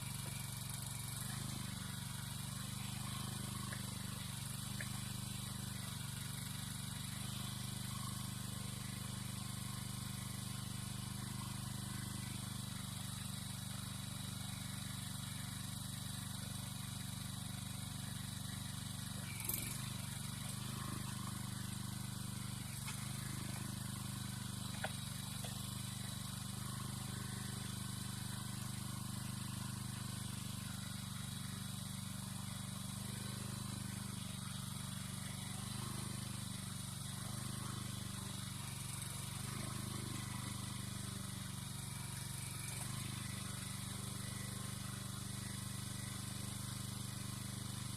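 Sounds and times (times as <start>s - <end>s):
small engine running: 0.0s - 47.9s.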